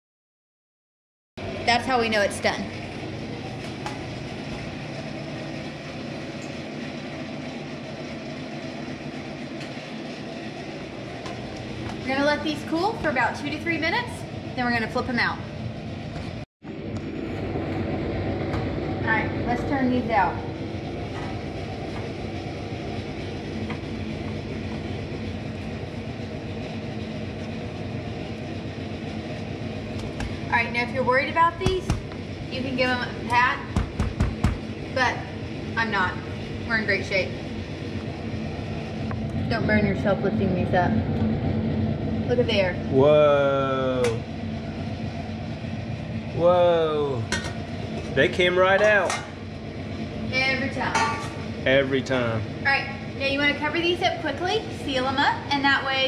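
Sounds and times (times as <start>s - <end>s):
oven humming drone: 1.4s - 56.0s.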